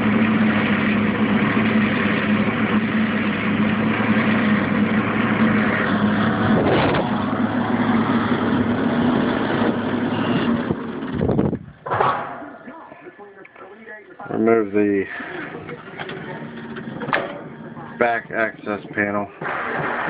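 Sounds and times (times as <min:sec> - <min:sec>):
constant hum: 0:00.0 - 0:20.0.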